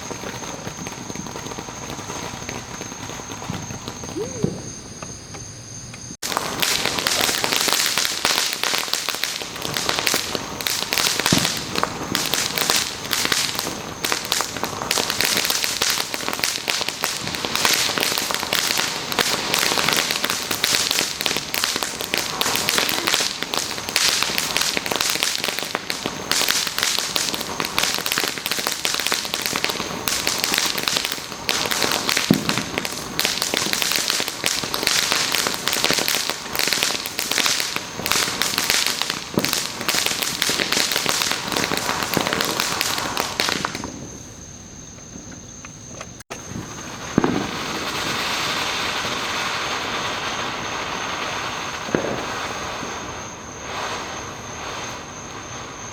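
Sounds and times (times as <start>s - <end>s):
firecrackers crackling and popping: 0.0s - 44.4s, 45.0s - 55.9s.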